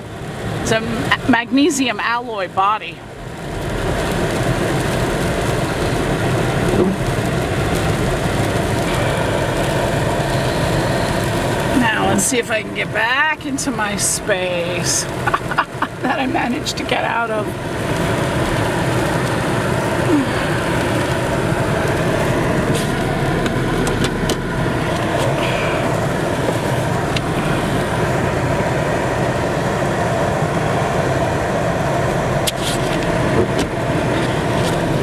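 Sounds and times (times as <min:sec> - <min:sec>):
car engine and tyre noise: 0:00.0 - 0:35.0.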